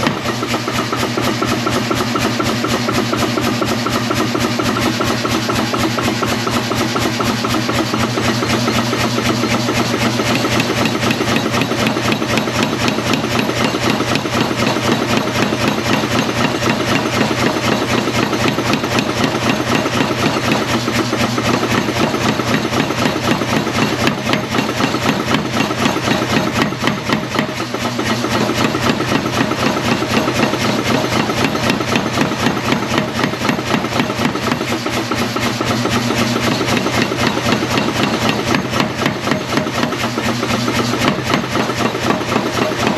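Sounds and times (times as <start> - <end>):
constant machine hum: 0.0 - 42.9
power hammer striking steel: 0.0 - 42.9.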